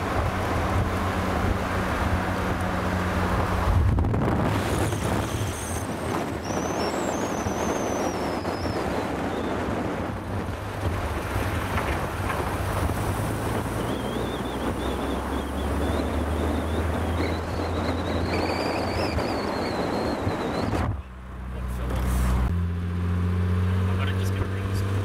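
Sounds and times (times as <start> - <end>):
wind rushing over microphone: 0.0 - 21.2.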